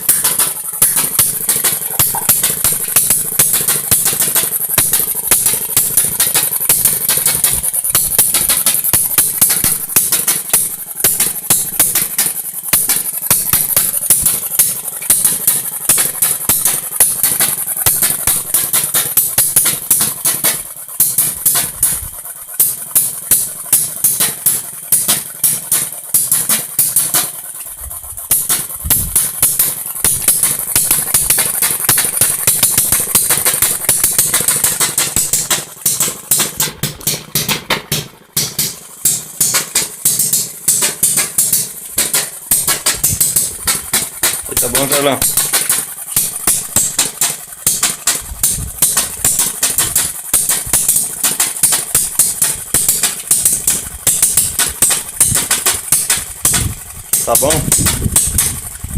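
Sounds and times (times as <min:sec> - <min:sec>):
two-stroke engine popping: 0:00.0 - 0:58.9.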